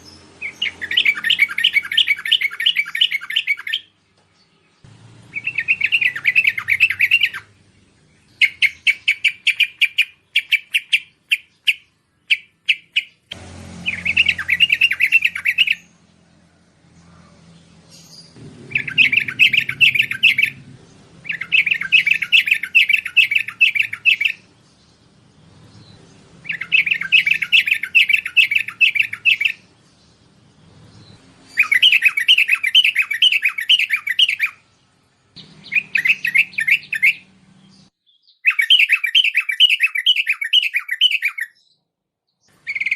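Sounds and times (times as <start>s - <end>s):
bulbul chattering song: 0.0s - 16.2s, 17.7s - 41.8s, 42.4s - 42.9s.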